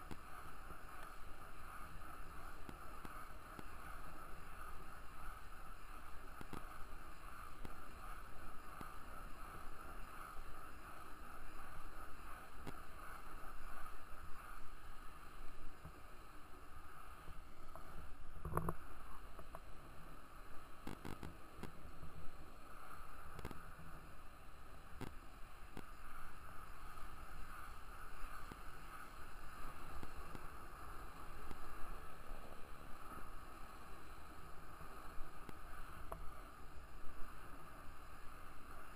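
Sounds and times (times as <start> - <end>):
skate wheels rolling on asphalt: 0.0 - 38.9.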